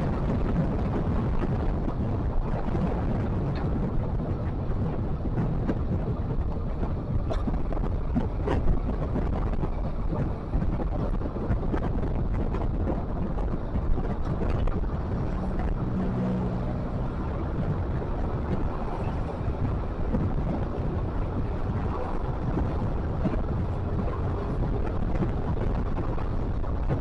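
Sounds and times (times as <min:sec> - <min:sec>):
low hum: 0:00.0 - 0:27.0
vehicle rumble: 0:00.0 - 0:27.0
wind buffeting microphone: 0:00.0 - 0:27.0.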